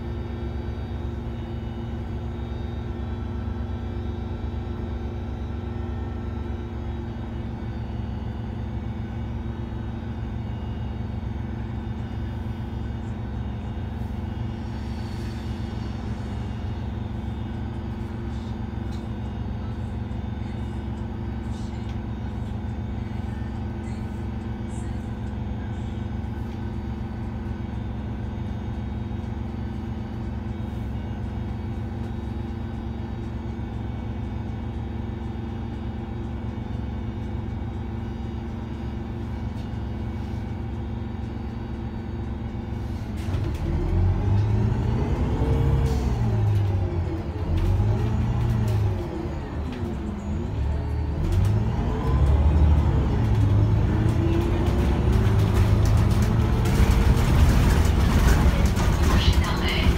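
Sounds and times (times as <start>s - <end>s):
bus engine idling and accelerating: 0.0s - 59.9s.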